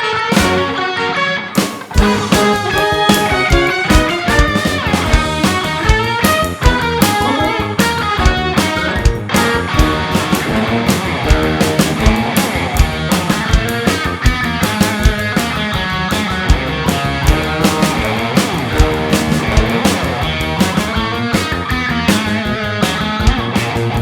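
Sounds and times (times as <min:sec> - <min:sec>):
electric guitars: 0:00.0 - 0:24.0
bass guitar: 0:00.2 - 0:24.0
steady drum beat: 0:00.3 - 0:00.8, 0:01.6 - 0:24.0.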